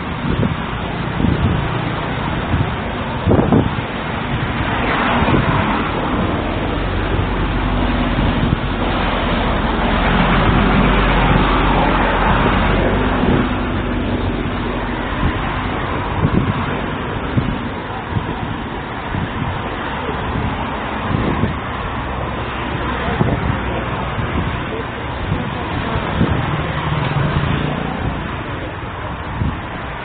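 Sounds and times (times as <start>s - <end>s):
vehicle rumble and tyre noise: 0.0s - 30.0s.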